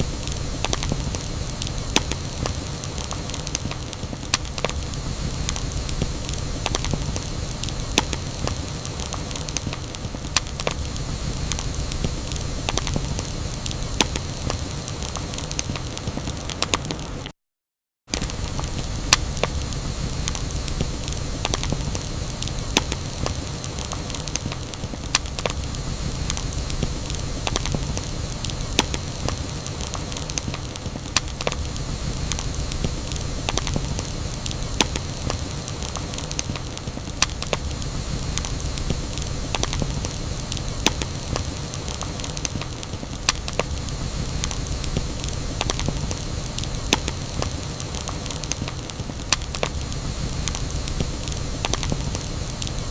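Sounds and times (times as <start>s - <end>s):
campfire crackling and popping: 0.0s - 17.3s, 18.1s - 52.9s.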